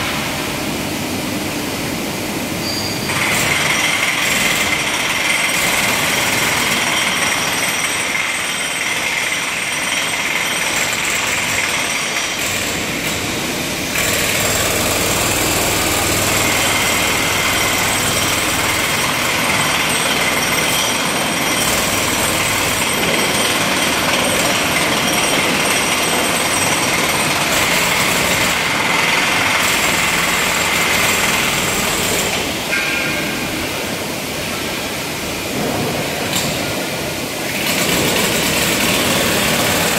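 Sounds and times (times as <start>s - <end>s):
pneumatic hammer breaking concrete: 3.1s - 33.1s, 37.5s - 39.9s.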